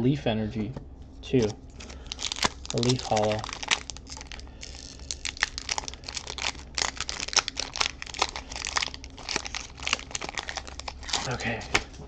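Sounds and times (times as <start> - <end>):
foil wrapper crinkling: 1.4 - 11.9.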